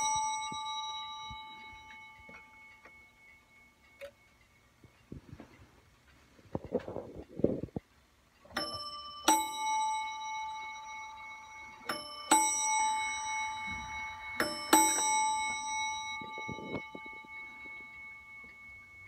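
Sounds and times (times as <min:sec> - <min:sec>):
mantel clock chiming on two bells: 0:00.0 - 0:05.7, 0:08.2 - 0:19.0.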